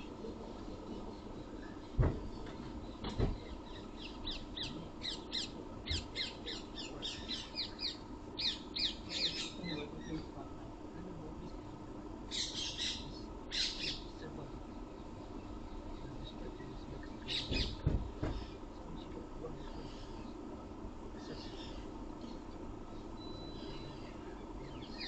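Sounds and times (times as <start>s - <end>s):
bird calling: 0.0s - 10.4s, 12.3s - 14.2s, 15.7s - 20.4s, 21.2s - 25.0s.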